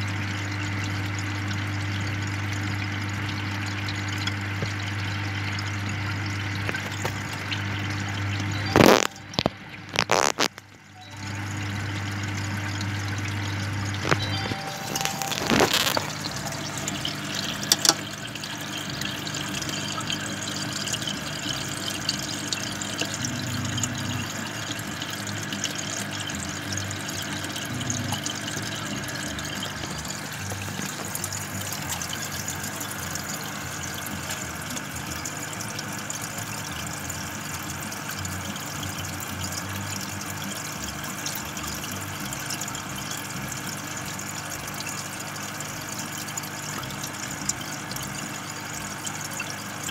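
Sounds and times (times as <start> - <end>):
aquarium air stone bubbling: 0.0 - 49.9.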